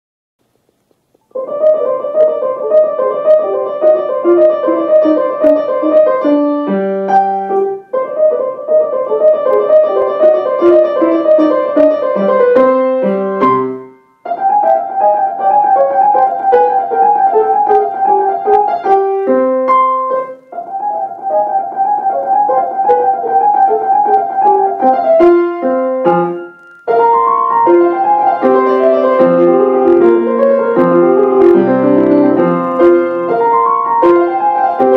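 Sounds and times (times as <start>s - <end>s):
grand piano playing: 1.3s - 34.9s.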